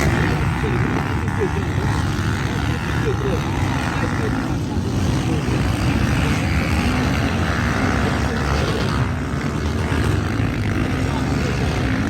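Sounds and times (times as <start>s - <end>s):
motocross bike engines: 0.0s - 12.0s.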